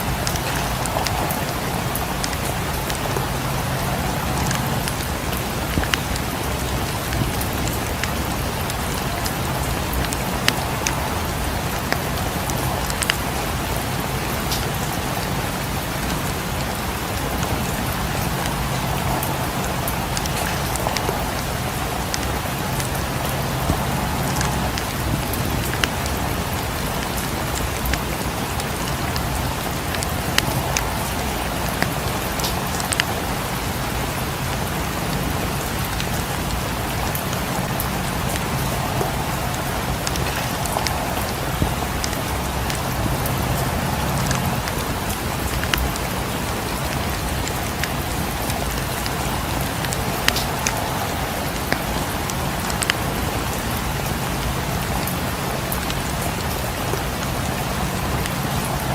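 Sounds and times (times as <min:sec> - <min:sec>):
rain falling: 0:00.0 - 0:58.9
wood fire crackling: 0:00.0 - 0:58.9.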